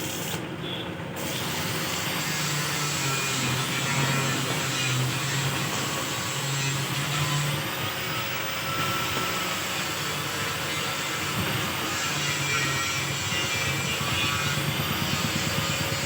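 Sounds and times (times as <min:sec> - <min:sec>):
mechanical hiss and rush: 0:00.0 - 0:00.4, 0:01.2 - 0:16.0
droning hum: 0:00.6 - 0:16.0.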